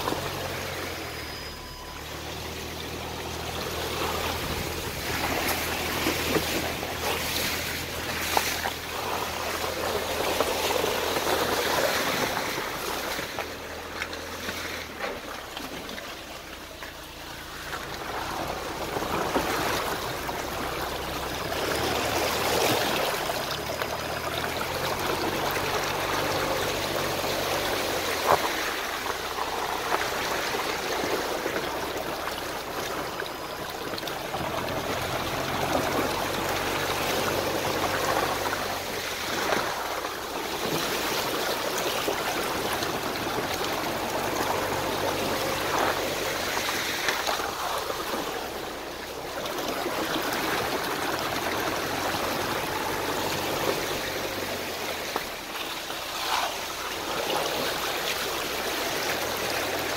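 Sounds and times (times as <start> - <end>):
low engine hum: 0.0 - 59.9
tyres rushing through mud: 0.0 - 59.9.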